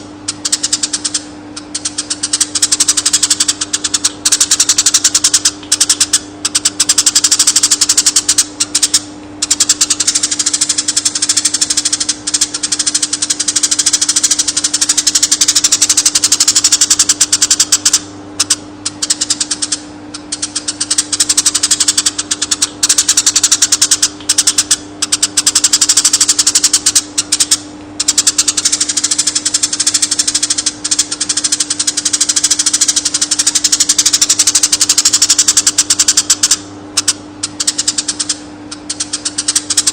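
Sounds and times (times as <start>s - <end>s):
rapid high bird trill: 0.0s - 39.9s
steady low hum: 0.0s - 39.9s.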